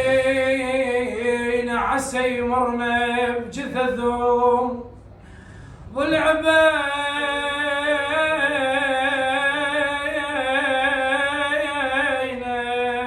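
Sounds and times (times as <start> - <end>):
man singing unaccompanied: 0.0 - 4.9, 5.9 - 13.0.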